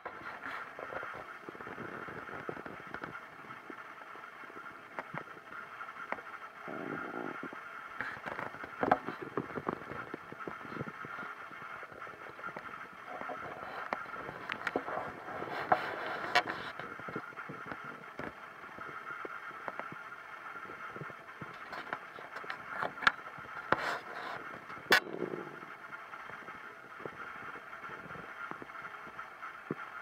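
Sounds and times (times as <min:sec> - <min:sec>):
stomach gurgling and rumbling: 0:00.0 - 0:29.8.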